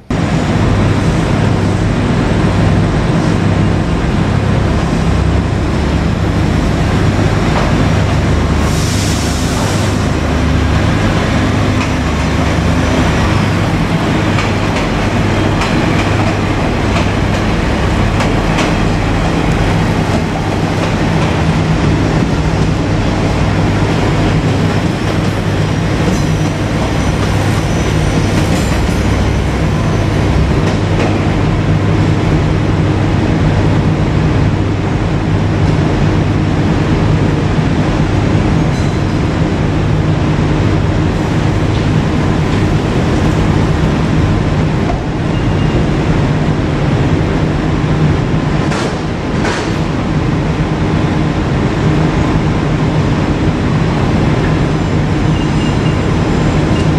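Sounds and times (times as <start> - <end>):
diesel railcar engine drone: 0.0 - 56.9.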